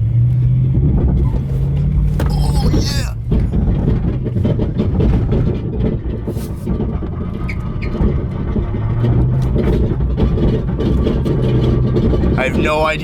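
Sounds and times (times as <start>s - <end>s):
pickup truck low rumble: 0.0s - 13.0s
rattling from underneath: 0.2s - 13.0s.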